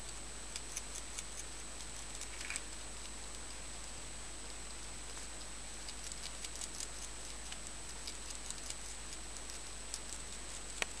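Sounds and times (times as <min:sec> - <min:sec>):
hedgehog chewing crisp crunches: 0:00.0 - 0:11.0.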